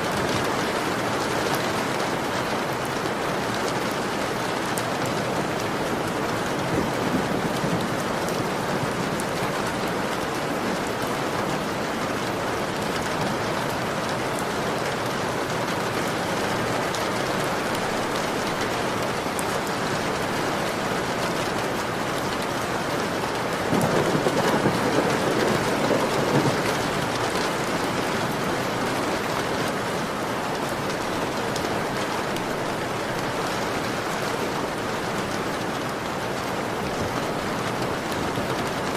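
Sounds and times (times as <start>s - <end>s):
heavy rain on a window: 0.0s - 38.9s.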